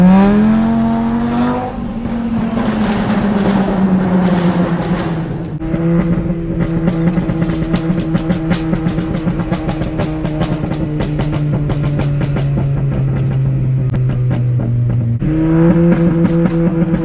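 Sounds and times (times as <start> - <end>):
car engine: 0.0 - 17.0
exhaust crackling and popping: 0.0 - 17.0.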